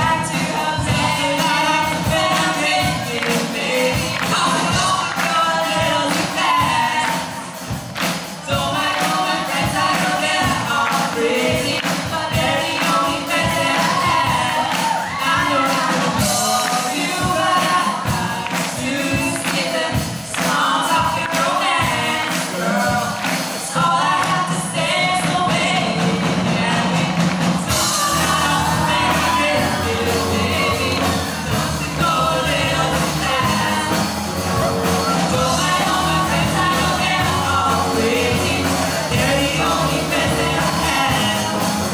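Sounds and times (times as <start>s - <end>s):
drum kit: 0.0s - 41.9s
singer: 0.0s - 41.9s.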